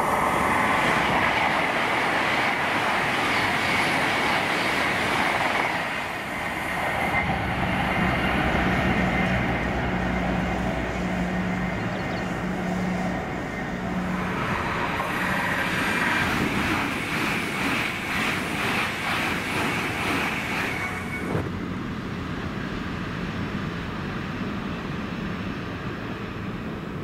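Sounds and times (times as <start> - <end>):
train engine hum: 0.0 - 27.0
train wheels rushing on rail: 0.0 - 27.0.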